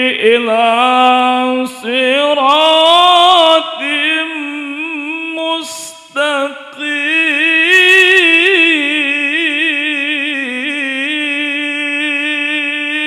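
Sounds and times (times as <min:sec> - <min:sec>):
man chanting melodic recitation: 0:00.0 - 0:13.0.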